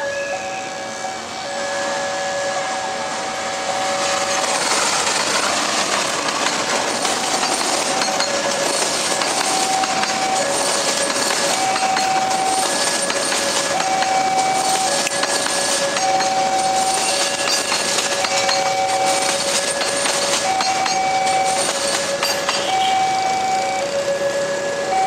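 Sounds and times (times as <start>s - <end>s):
two-tone crossing warning signal: 0.0s - 5.4s, 6.2s - 25.0s
train wheels on rails: 0.0s - 25.0s.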